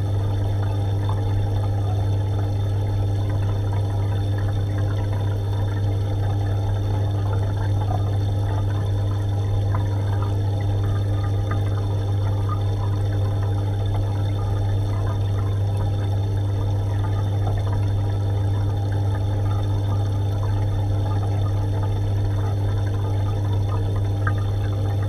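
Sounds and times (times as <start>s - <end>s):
aquarium water bubbling and trickling: 0.0s - 25.0s
low equipment hum: 0.0s - 25.0s
ticks of bubbles and splashes: 0.0s - 25.0s.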